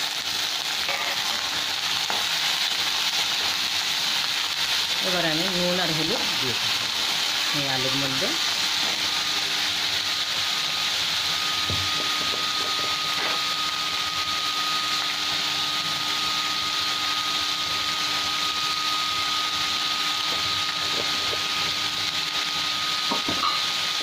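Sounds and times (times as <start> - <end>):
potatoes sizzling in oil: 0.0 - 24.0
thin steady whine: 0.7 - 24.0.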